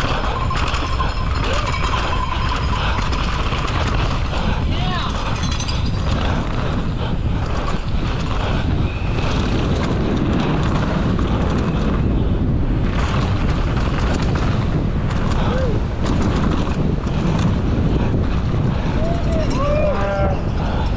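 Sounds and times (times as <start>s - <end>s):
bike rattling: 0.0s - 20.9s
bike tyres rumbling over dirt: 0.0s - 20.9s
wind buffeting microphone: 0.0s - 20.9s.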